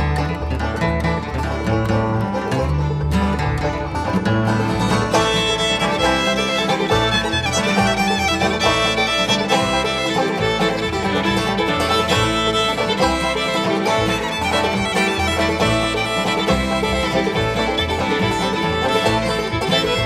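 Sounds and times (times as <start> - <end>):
bluegrass band playing: 0.0 - 20.0
fiddle: 0.0 - 20.0.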